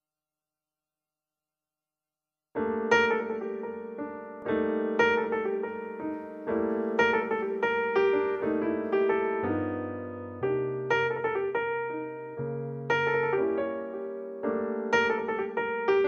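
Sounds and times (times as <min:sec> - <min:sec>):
piano chords: 0:02.6 - 0:16.0.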